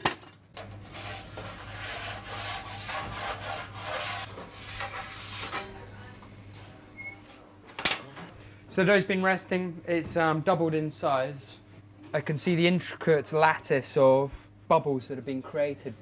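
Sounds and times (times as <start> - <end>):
steady low hum: 0.5 - 16.0.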